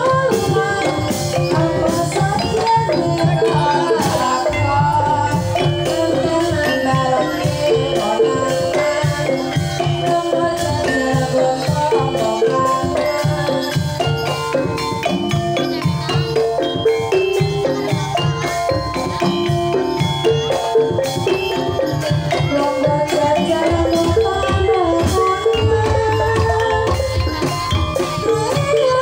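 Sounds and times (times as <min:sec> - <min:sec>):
hand drums: 0:00.0 - 0:29.0
wooden xylophone melody: 0:00.0 - 0:29.0.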